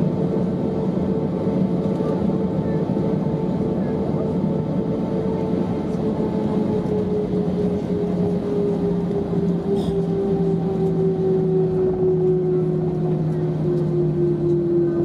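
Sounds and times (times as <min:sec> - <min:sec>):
jet engines humming: 0:00.0 - 0:15.0.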